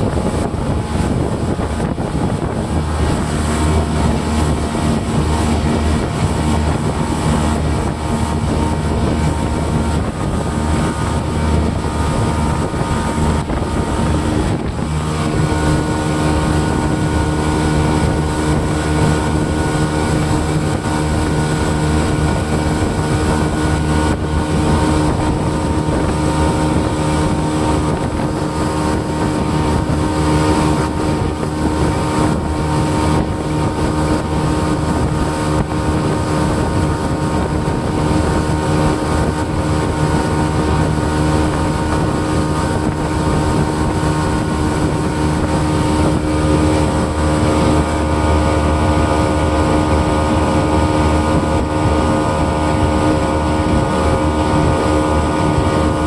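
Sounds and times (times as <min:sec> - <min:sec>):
boat engine running: 0:00.0 - 0:56.0
water rushing: 0:00.0 - 0:56.0
wind buffeting microphone: 0:00.0 - 0:56.0.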